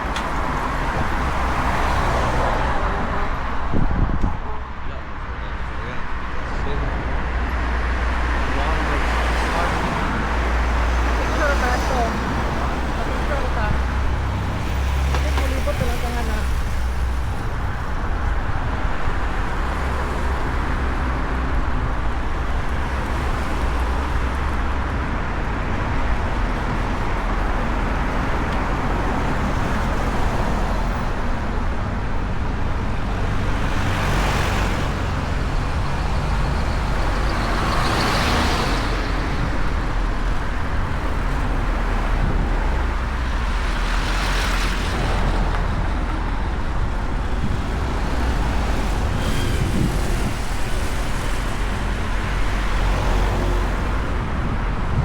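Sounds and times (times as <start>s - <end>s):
cars swishing past close by: 0.0s - 4.2s, 6.7s - 55.0s
rumble of road traffic: 0.0s - 55.0s.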